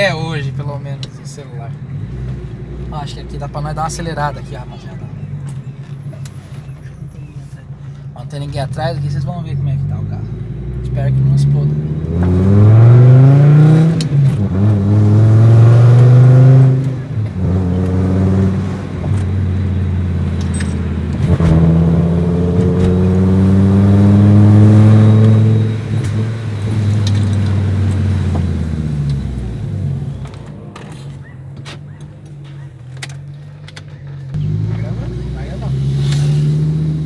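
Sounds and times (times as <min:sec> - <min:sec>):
car engine revving hard: 0:00.0 - 0:37.0.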